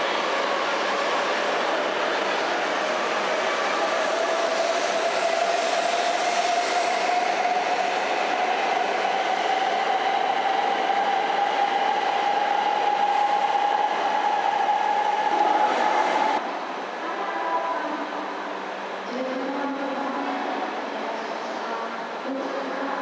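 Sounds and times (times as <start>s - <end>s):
rush of passing train: 0.0s - 23.0s.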